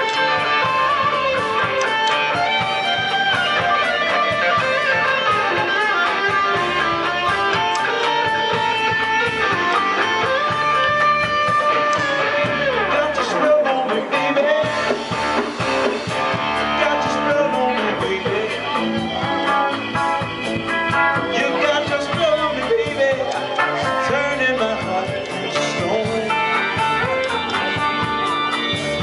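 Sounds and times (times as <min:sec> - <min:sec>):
bass guitar: 0:00.0 - 0:29.0
drums: 0:00.0 - 0:29.0
electric guitar lead: 0:00.0 - 0:29.0.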